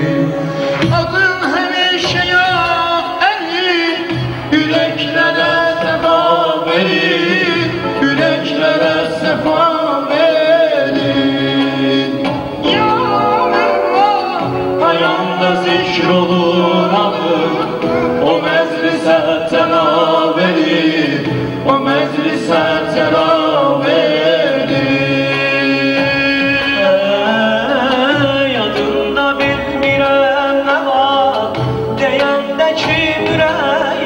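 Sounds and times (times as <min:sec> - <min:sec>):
electric keyboard: 0:00.0 - 0:34.0
man singing through loudspeakers: 0:00.0 - 0:34.0.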